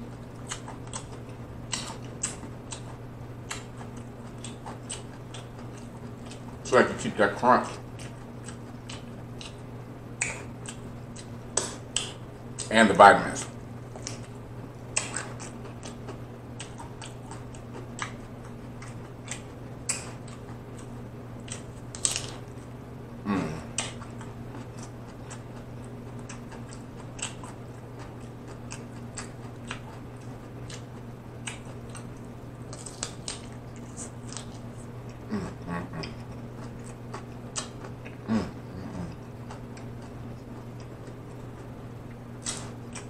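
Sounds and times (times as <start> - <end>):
crunchy chewing: 0.0 - 12.7, 13.3 - 22.7, 23.3 - 43.0
steady low hum: 0.0 - 43.0.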